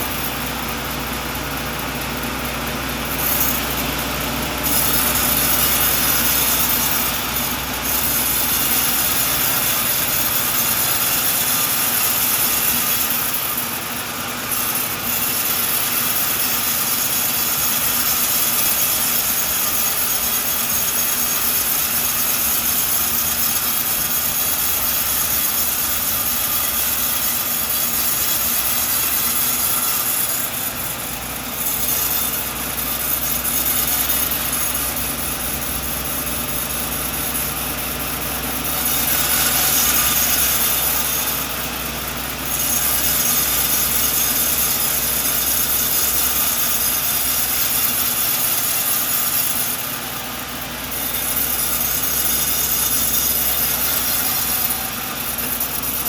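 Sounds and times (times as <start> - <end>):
saw blade cutting wood: 0.0 - 56.0
sawmill machine drone: 0.0 - 56.0.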